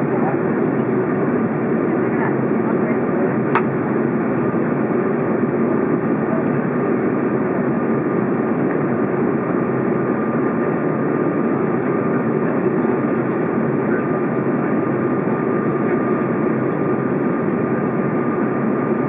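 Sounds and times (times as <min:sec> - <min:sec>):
aircraft engine and airflow rushing: 0:00.0 - 0:19.0.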